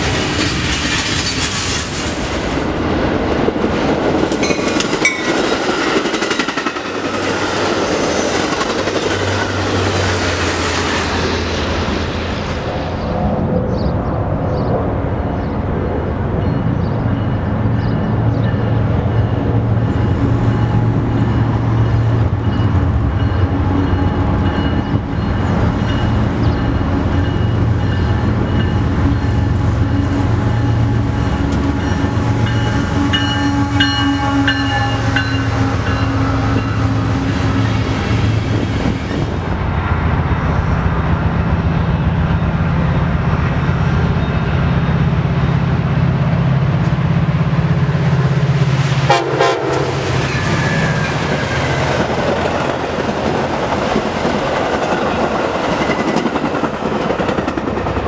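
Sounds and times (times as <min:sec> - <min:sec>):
commuter train rumble: 0:00.0 - 0:58.0
wheel and rail noise: 0:00.0 - 0:58.0.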